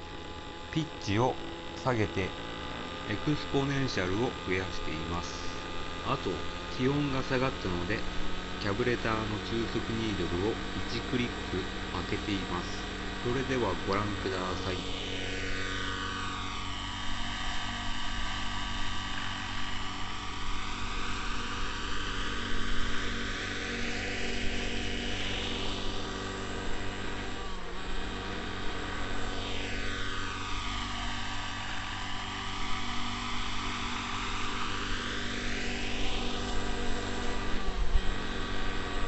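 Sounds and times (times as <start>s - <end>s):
rc helicopter engine and rotors: 0.0s - 39.0s.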